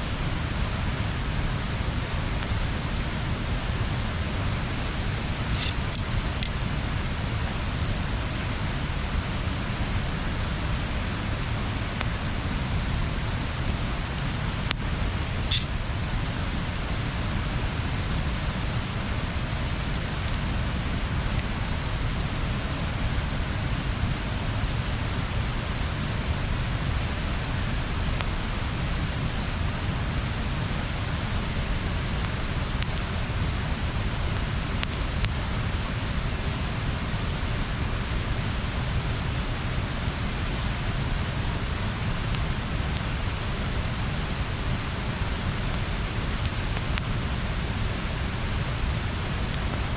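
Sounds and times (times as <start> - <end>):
bonfire rushing noise: 0.0 - 49.9
fire crackles and pops: 0.1 - 49.9.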